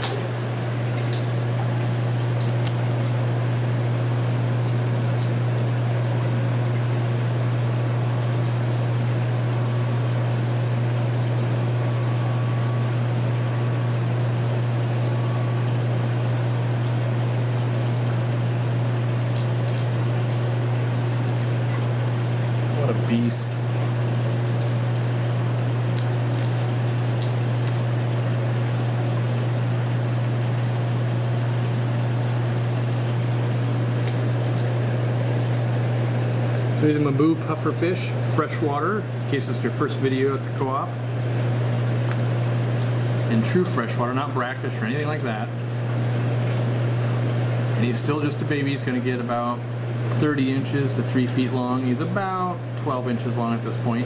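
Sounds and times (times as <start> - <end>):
steady low hum: 0.0 - 54.0
underwater water noise: 0.0 - 54.0.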